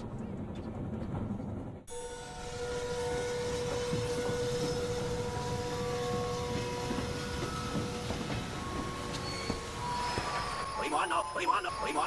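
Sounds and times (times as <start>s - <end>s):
steam locomotive rumble and hiss: 0.0s - 11.9s.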